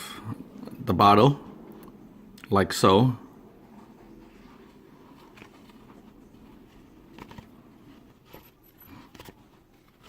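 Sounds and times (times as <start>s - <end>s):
faint room noise: 0.0s - 10.0s.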